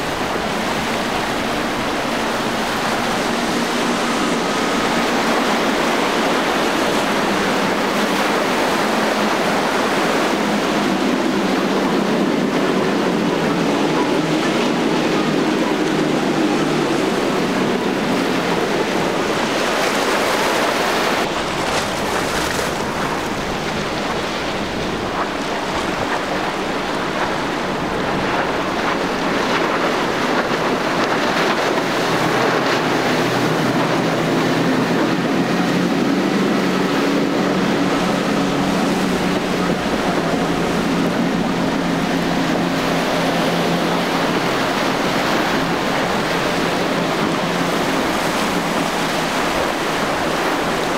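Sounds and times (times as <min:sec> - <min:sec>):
motorboat engines humming: 0:00.0 - 0:50.9
waves and surf washing: 0:00.0 - 0:50.9
wind buffeting microphone: 0:00.0 - 0:50.9.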